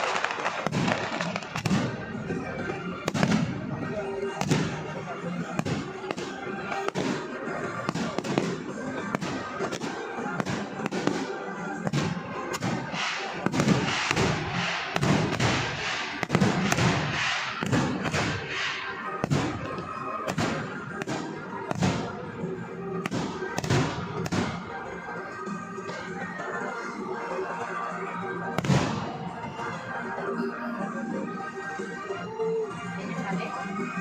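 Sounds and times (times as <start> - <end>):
fireworks bangs and crackling: 0.0 - 30.5
music playing: 0.0 - 34.0.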